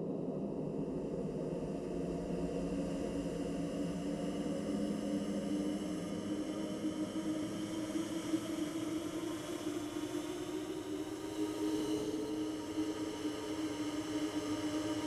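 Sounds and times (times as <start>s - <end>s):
dark ambient drone with hiss: 0.0s - 15.0s.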